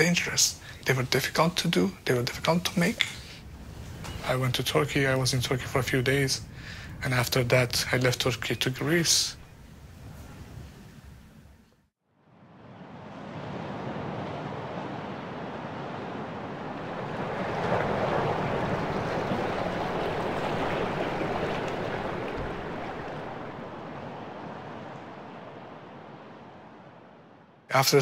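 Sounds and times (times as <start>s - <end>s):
rushing sea waves: 0.0s - 11.6s, 12.2s - 28.0s
wind: 0.0s - 28.0s.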